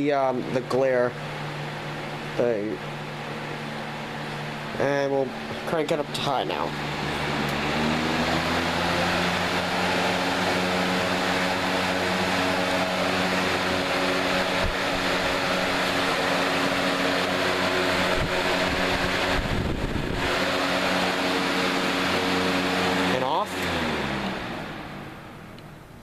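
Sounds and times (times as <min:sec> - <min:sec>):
box fan running: 0:00.0 - 0:26.0.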